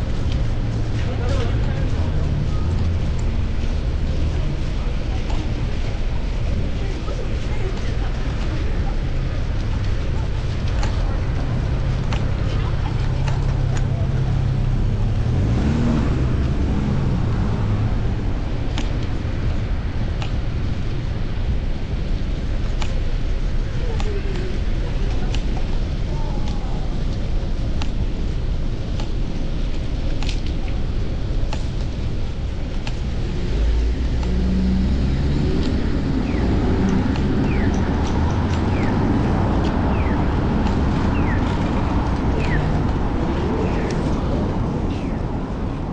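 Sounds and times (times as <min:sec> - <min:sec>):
road rumble: 0:00.0 - 0:45.9
street traffic: 0:00.0 - 0:45.9
wind noise: 0:00.0 - 0:45.9.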